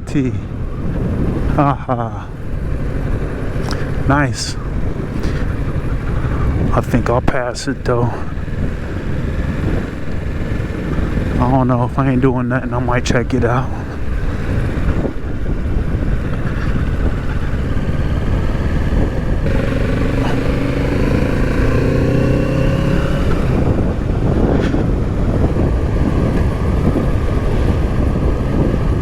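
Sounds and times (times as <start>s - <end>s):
wind and road noise: 0.0s - 29.0s
motorcycle engine accelerating: 0.5s - 29.0s.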